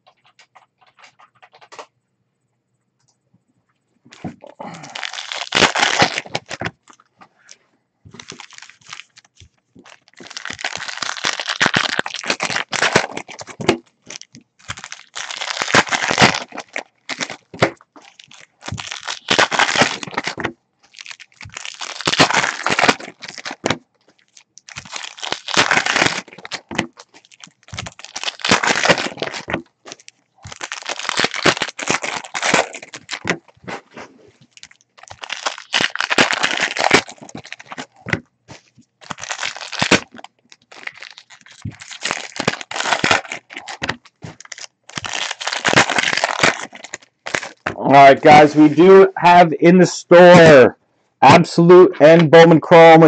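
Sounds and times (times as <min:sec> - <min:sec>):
foil wrappers torn and crinkled: 0:04.1 - 0:07.0, 0:08.1 - 0:48.9.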